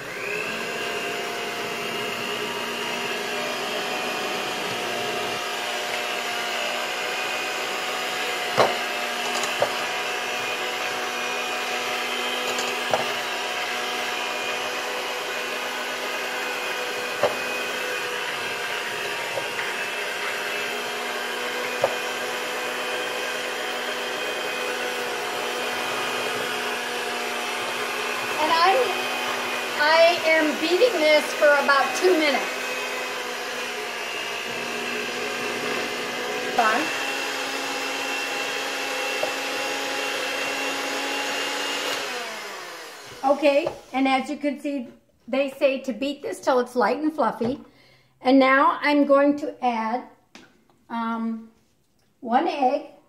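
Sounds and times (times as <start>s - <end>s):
electric hand mixer running: 0.0s - 44.2s.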